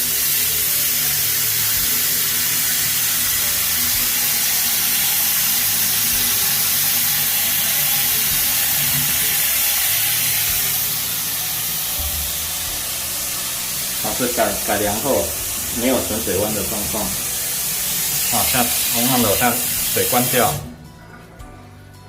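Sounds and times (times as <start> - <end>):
tap water rushing down drain: 0.0 - 20.7.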